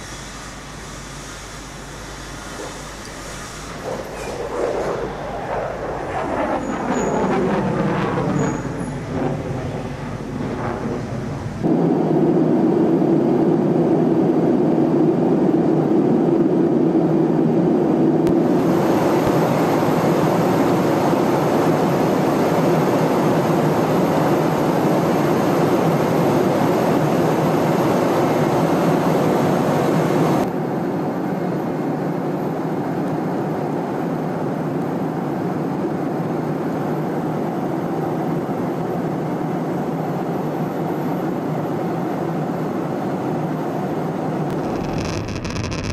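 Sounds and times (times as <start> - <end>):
jet aircraft drone: 0.0 - 45.9.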